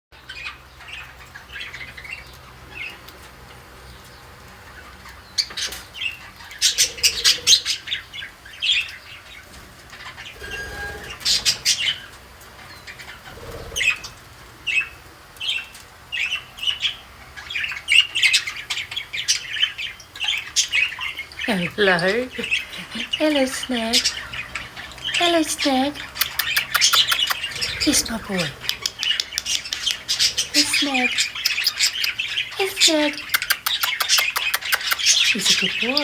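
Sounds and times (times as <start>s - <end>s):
budgerigar chirping and squawking: 5.4s - 36.0s.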